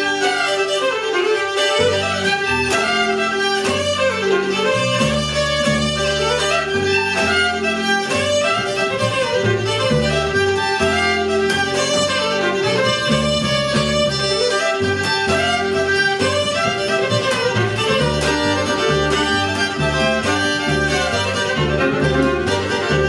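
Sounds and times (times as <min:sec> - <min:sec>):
fiddles playing old-time tune: 0:00.0 - 0:23.0
low bass notes: 0:01.7 - 0:23.0.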